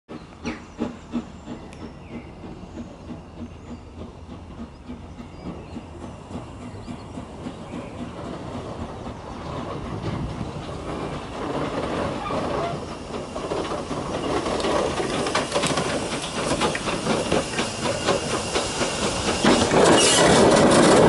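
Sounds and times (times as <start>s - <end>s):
steam locomotive rhythmic beat: 0.1s - 21.0s.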